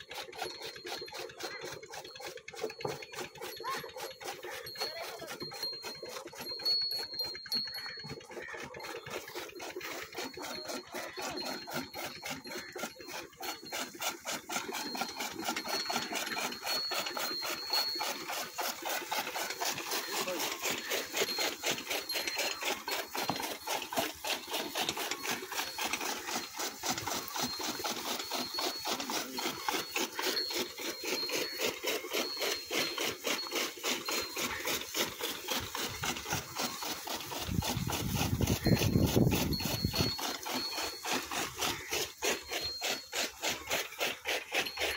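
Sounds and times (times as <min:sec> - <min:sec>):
chaff cutter gears grinding: 0:00.0 - 0:44.9.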